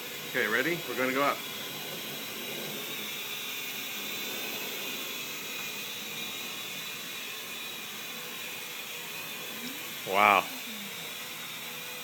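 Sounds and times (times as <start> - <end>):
drone propellers whirring: 0.1 - 11.9.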